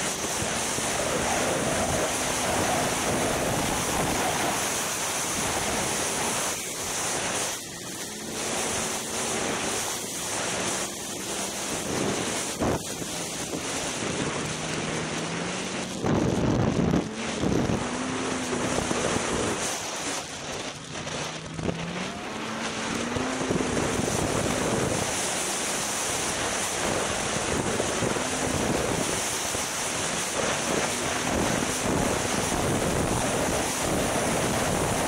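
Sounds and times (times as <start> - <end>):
snowmobile engine running: 0.0 - 35.0
wind rushing over microphone: 0.0 - 35.0.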